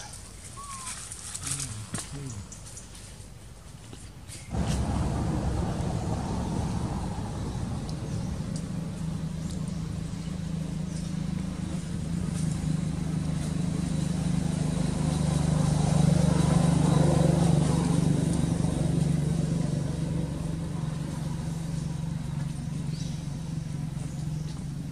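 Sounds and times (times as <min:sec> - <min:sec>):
vehicle engine running: 0:04.5 - 0:24.9.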